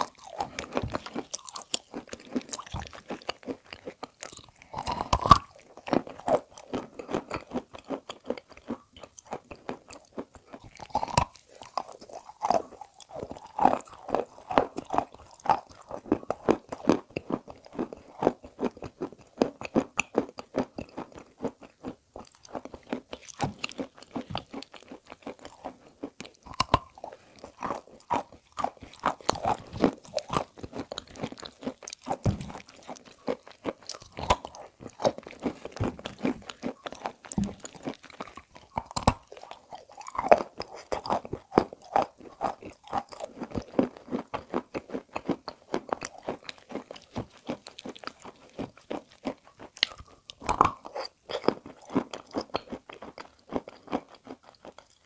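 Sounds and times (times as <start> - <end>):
chalk crunching and chewing: 0.0 - 55.0.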